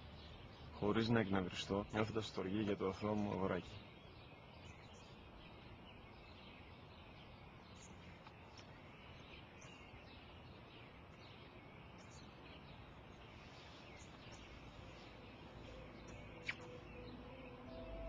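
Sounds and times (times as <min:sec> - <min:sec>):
low steady background hiss: 0:00.0 - 0:18.0
small birds chirping: 0:00.0 - 0:18.0.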